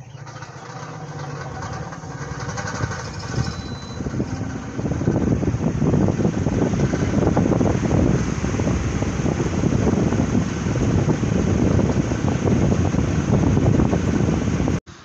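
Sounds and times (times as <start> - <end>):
wind buffeting microphone: 0.0 - 14.8
low hum: 0.0 - 15.0.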